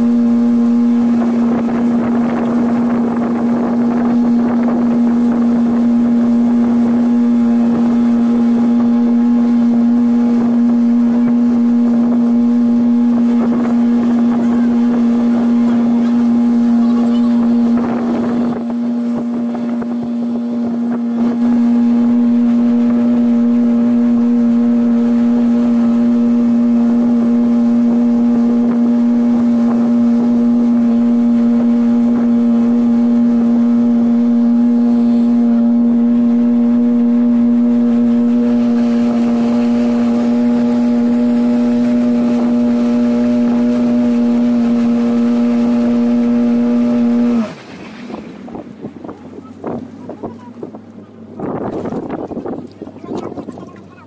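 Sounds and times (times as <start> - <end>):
motorboat engine humming: 0.0 - 54.0.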